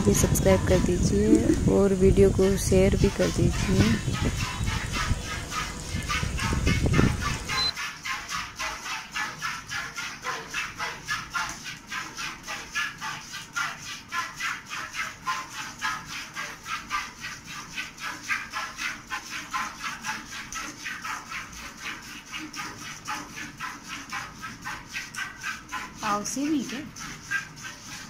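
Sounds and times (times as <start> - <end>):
milk squirting into steel pail: 2.5 - 28.0.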